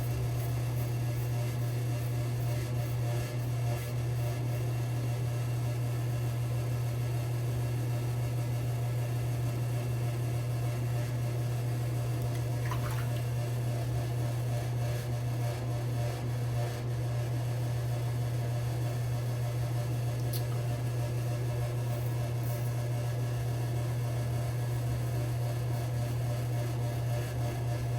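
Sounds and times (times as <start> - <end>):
low electrical hum: 0.0 - 15.7, 16.9 - 27.9.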